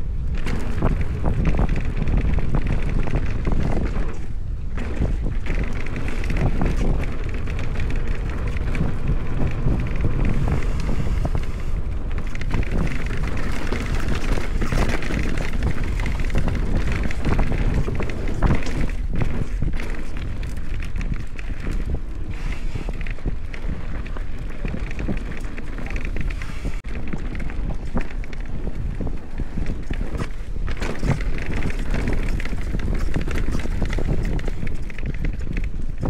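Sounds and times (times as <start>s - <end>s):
tyre noise on dirt: 0.0s - 36.0s
wind rushing over microphone: 0.0s - 36.0s
bike clattering and knocking: 0.3s - 36.0s.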